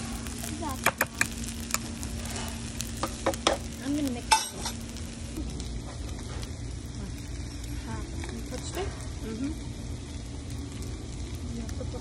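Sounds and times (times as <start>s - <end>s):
food sizzling in stone bowl: 0.0s - 12.0s.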